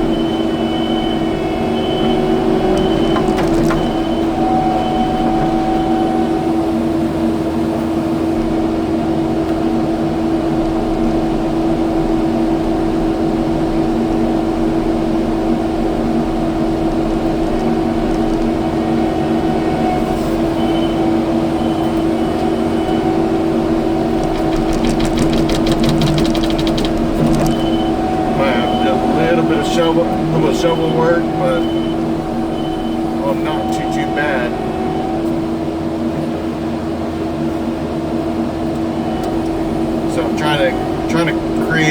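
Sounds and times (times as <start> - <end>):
diesel engine humming: 0.0 - 41.9.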